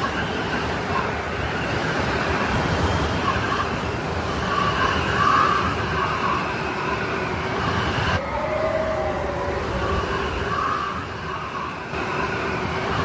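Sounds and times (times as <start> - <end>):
snowstorm wind howling: 0.0 - 13.0.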